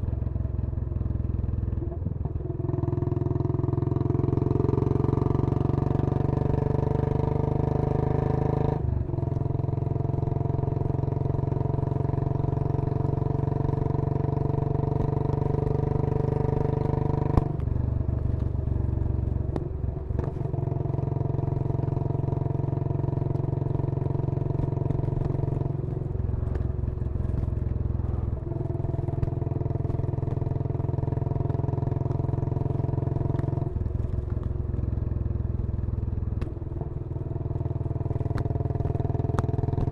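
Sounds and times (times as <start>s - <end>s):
single-cylinder motorcycle engine running: 0.0s - 39.9s.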